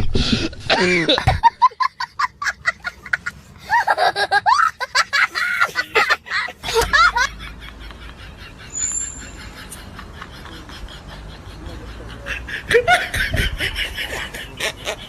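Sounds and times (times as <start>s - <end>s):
high-pitched laughter: 0.4s - 15.0s.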